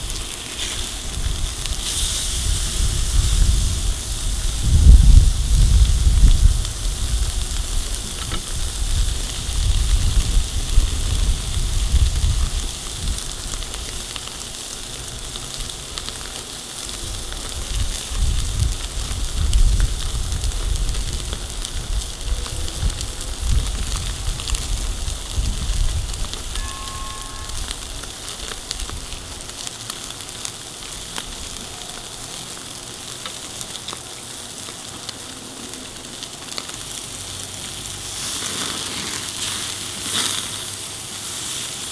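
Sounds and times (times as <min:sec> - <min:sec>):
steaks sizzling on a grill: 0:00.0 - 0:41.9.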